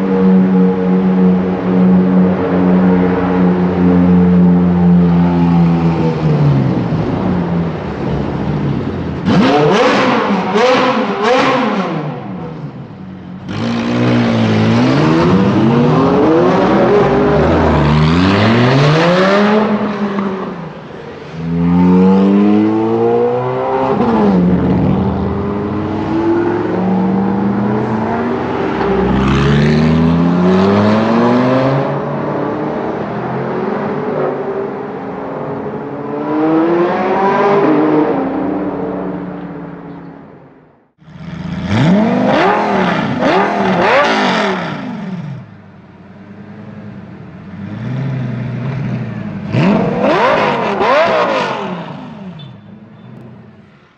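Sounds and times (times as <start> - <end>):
supercar engines accelerating: 0.0 - 40.3, 41.0 - 53.6.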